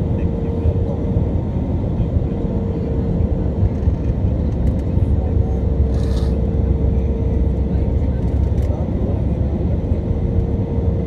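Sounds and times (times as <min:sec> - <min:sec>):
constant hum tone: 0:00.0 - 0:11.0
jet engine and airflow rumble: 0:00.0 - 0:11.0.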